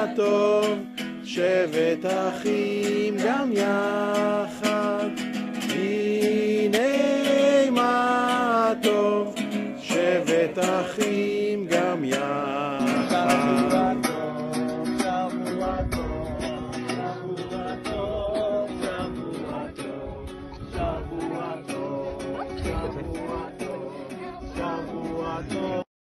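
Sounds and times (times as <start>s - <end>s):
strummed acoustic guitar: 0.0s - 25.8s.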